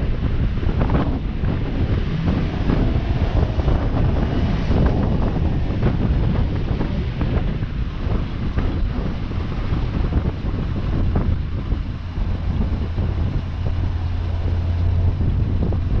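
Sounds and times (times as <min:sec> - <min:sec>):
heavy logging equipment rumbling: 0:00.0 - 0:16.0
wind buffeting microphone: 0:00.0 - 0:16.0.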